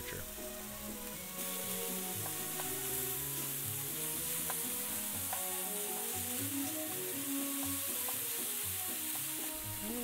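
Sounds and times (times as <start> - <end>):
meat sizzling in a skillet: 0.2 - 10.0.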